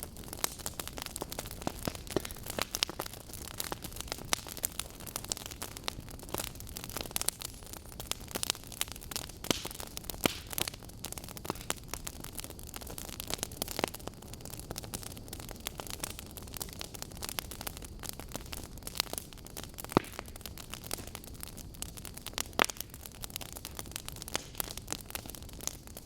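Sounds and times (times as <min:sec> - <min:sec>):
burning logs crackling: 0:00.0 - 0:26.0.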